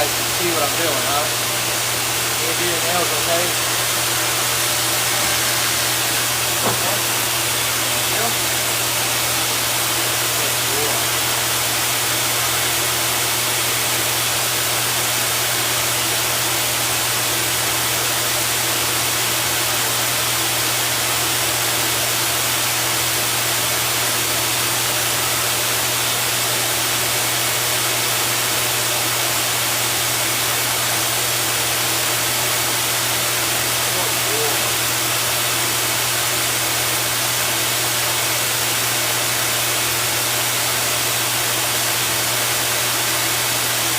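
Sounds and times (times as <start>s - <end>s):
pet grooming blower running: 0.0s - 43.9s.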